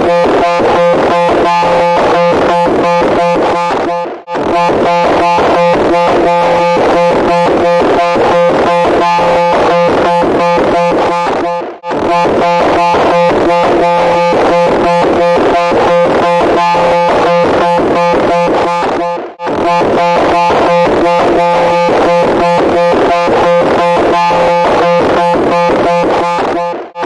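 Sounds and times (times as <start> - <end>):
harsh pulsing electronic tone: 0.0 - 27.0.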